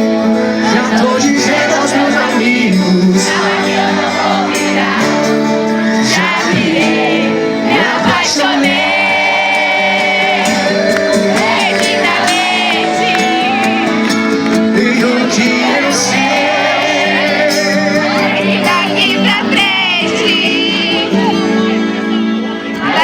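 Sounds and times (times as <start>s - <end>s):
crowd singing and cheering: 0.0s - 23.0s
live band playing pop song: 0.0s - 23.0s.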